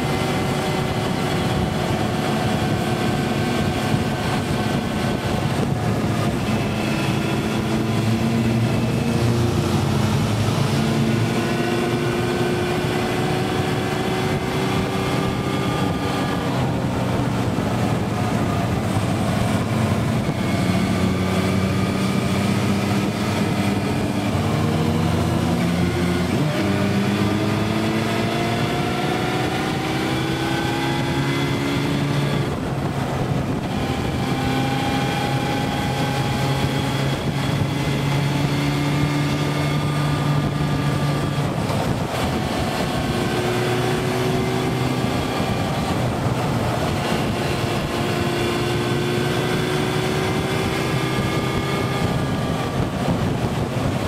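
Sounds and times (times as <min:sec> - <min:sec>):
motorcycle engine running: 0:00.0 - 0:54.0
wind rushing: 0:00.0 - 0:54.0.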